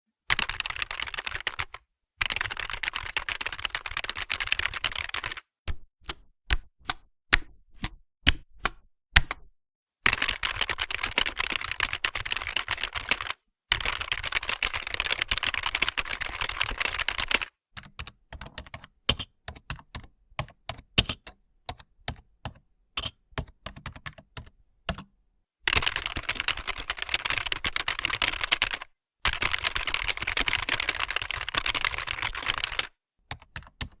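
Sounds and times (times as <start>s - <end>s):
typing on computer keyboard: 0.3s - 5.5s, 10.1s - 25.1s, 25.7s - 34.0s.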